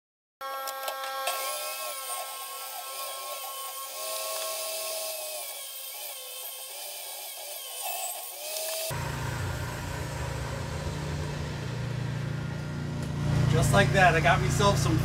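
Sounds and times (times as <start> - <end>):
table saw cutting wood: 0.4 - 15.0.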